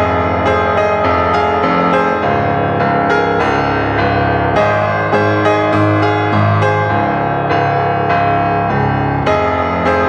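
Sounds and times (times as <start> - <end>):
keyboard chords: 0.0 - 10.0.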